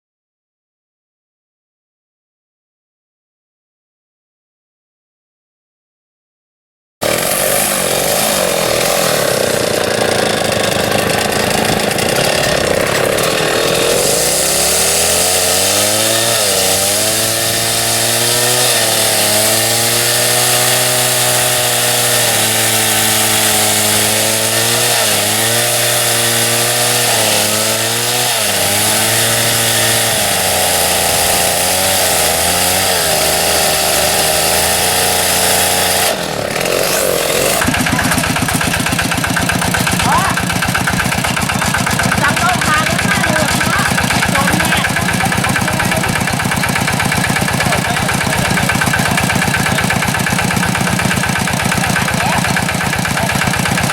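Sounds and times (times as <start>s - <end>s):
chainsaw cutting wood: 7.0s - 53.9s.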